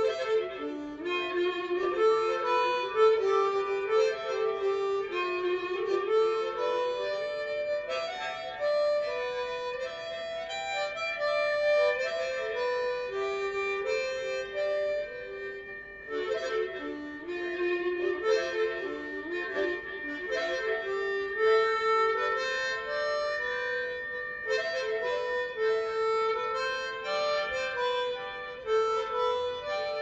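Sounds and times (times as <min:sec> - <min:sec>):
harmonica playing blues: 0:00.0 - 0:30.0.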